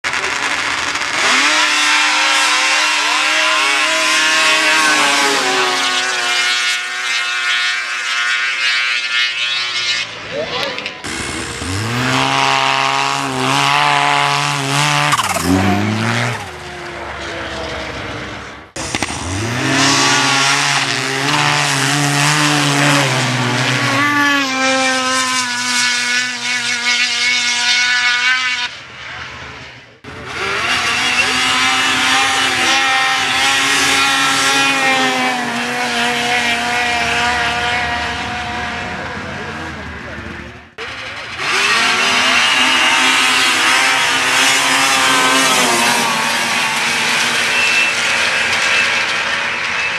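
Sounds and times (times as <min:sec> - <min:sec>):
snowmobile engines racing: 0:00.0 - 0:49.9.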